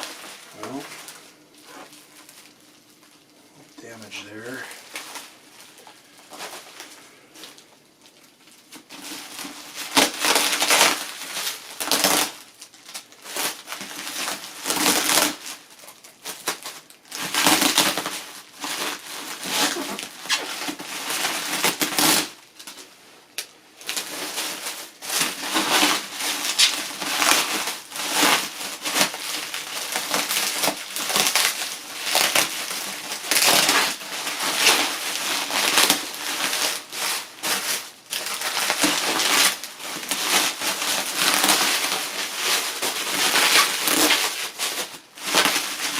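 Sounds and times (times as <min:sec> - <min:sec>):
packing material crinkling: 0:00.0 - 0:45.9.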